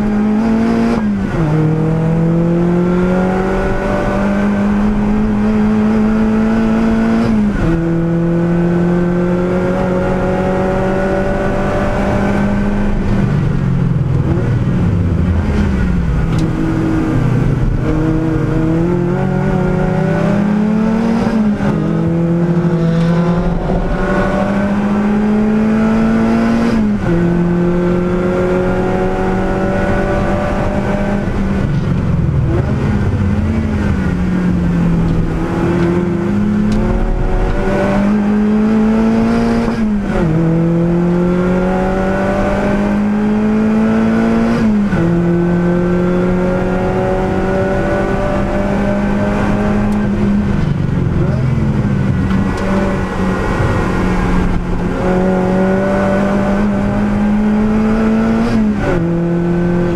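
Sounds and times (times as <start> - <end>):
racing car engine accelerating: 0.0 - 59.9.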